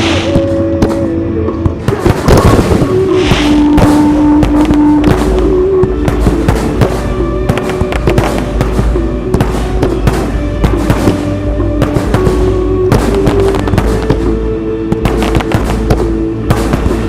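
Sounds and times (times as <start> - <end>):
anthem music playing: 0.0 - 17.0
fireworks bursting and crackling: 0.0 - 17.0.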